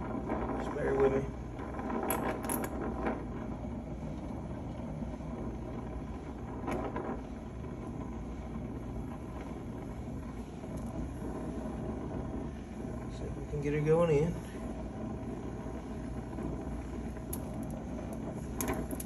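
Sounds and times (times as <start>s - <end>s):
torch flame burning: 0.0s - 19.0s.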